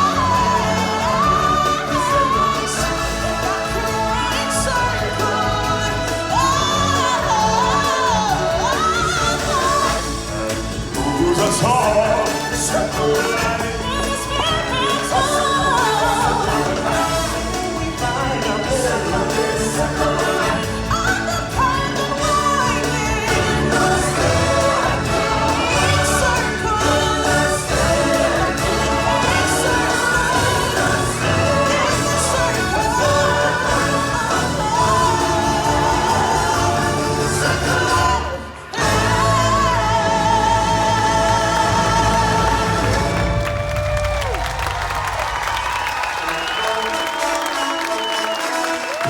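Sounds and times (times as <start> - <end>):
choir singing: 0.0 - 43.7, 46.2 - 49.0
lead voice singing: 0.0 - 44.4, 46.4 - 49.0
band playing: 0.0 - 49.0.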